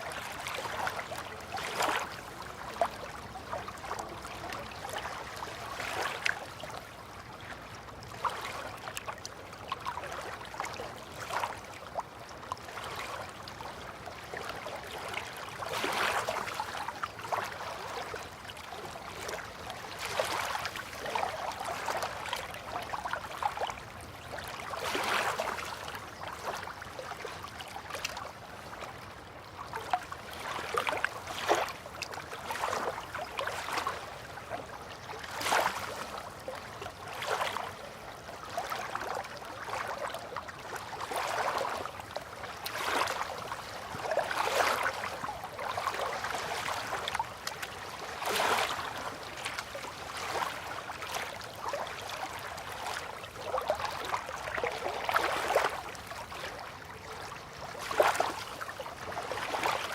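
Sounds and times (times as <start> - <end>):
river water lapping and splashing: 0.0 - 59.9.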